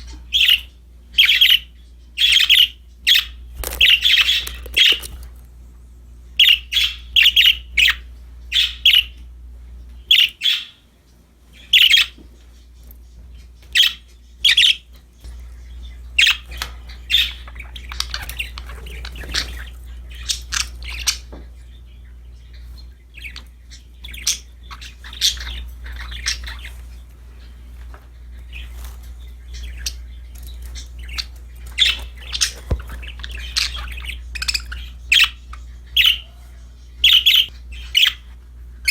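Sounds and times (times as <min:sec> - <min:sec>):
budgerigars chirping and squawking: 0:00.0 - 0:38.9.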